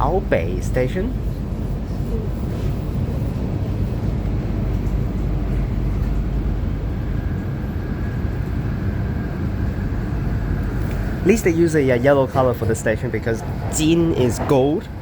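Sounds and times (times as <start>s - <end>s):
faint steady whine: 0.0s - 15.0s
train interior rumble: 0.0s - 15.0s.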